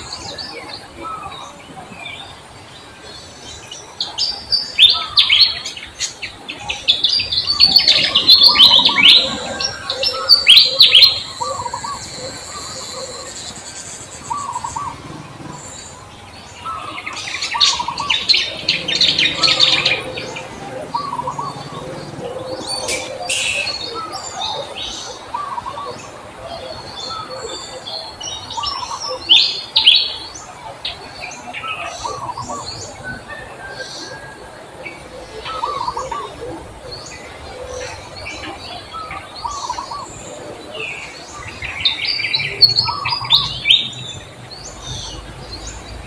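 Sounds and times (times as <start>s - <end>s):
songbirds chirping: 0.0s - 46.0s.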